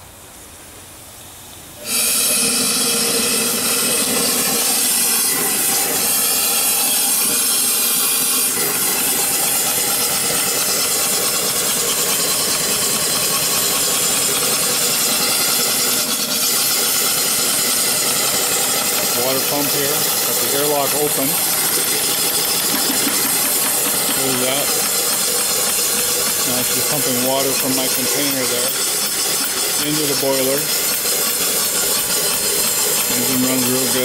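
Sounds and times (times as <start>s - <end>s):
steam engine rushing steam: 1.7s - 34.0s.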